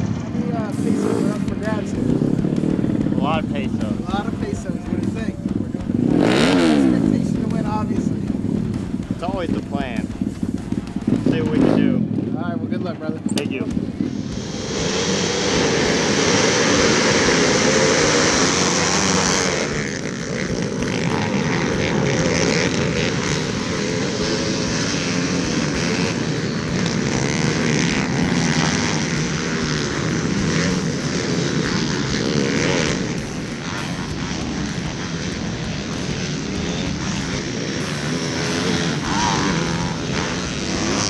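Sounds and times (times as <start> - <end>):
pit bike engines revving high: 0.0 - 41.0.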